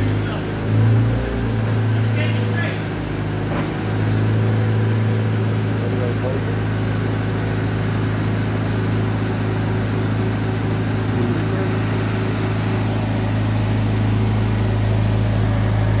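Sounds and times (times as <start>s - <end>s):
forklift engine humming: 0.0s - 16.0s.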